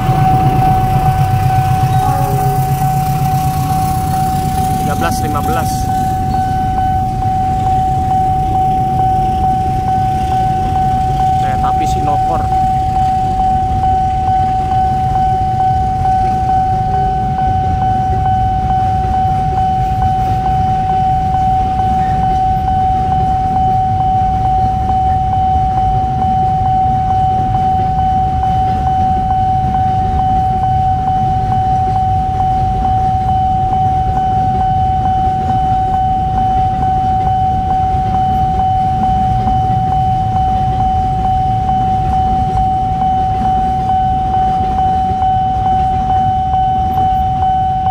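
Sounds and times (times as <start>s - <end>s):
freight train wagons rumbling: 0.0s - 47.9s
level crossing alarm steady tone: 0.0s - 47.9s.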